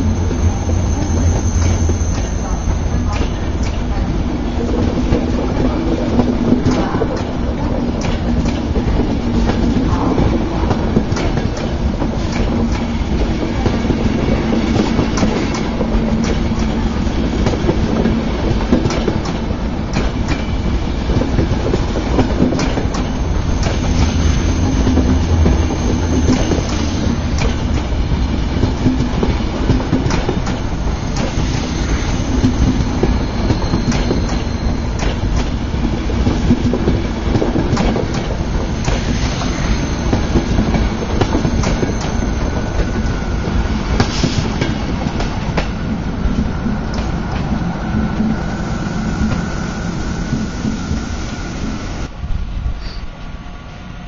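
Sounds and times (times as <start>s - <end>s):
train rumbling past: 0.0s - 54.0s.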